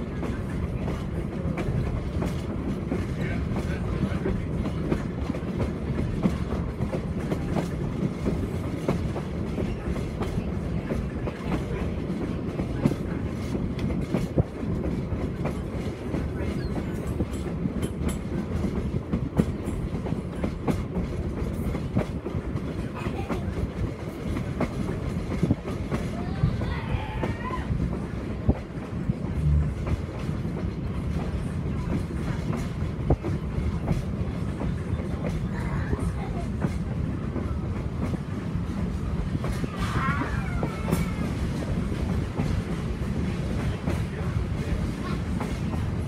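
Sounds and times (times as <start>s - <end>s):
wheels rumbling on rail: 0.0s - 46.0s.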